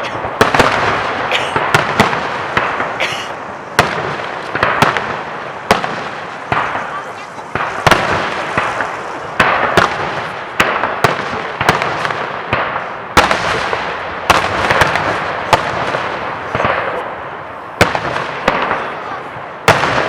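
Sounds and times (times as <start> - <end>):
fireworks bursting with bangs: 0.0 - 20.0
fireworks crackle: 0.0 - 20.0.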